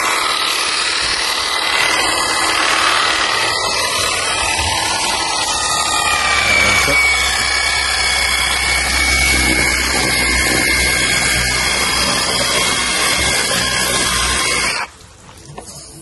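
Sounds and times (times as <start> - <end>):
pressure washer motor whine: 0.0 - 15.0.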